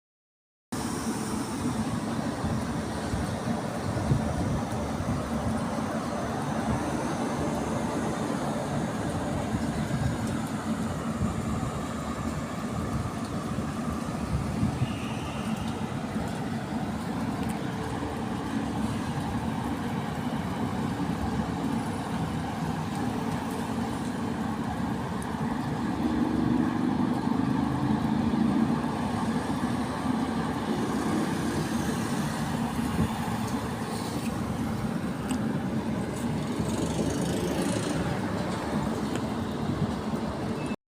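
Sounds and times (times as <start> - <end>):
road traffic hiss: 0.7 - 40.8.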